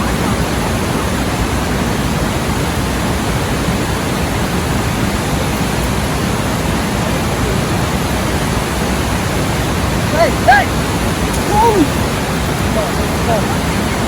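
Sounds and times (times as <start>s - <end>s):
water rushing through spillway: 0.0s - 14.0s.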